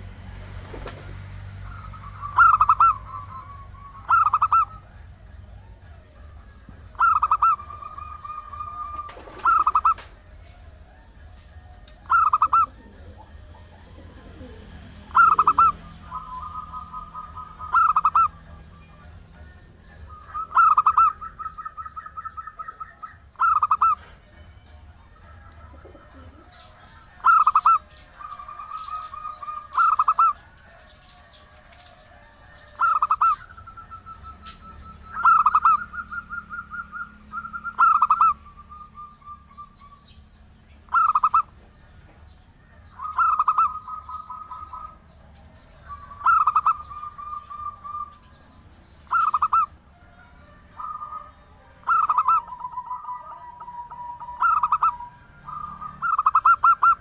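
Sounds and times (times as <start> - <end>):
dove cooing: 0.7 - 24.2, 24.8 - 40.0, 40.9 - 41.7, 42.6 - 45.2, 45.8 - 57.0.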